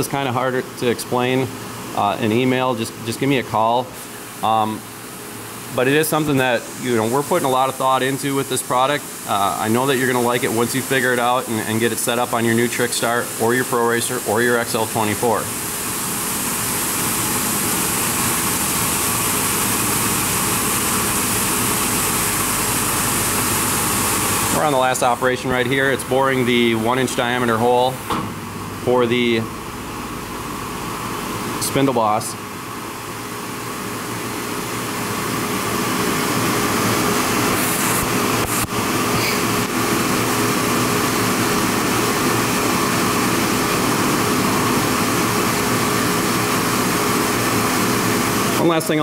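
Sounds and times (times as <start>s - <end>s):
machine running hum: 0.0s - 49.0s
coolant spray hissing: 0.9s - 49.0s.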